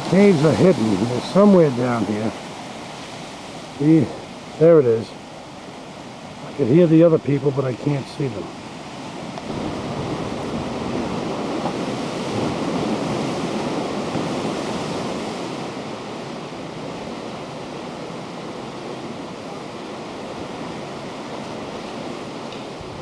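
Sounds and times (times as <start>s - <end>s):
ocean surf rushing: 0.0s - 23.0s
wind: 0.0s - 23.0s.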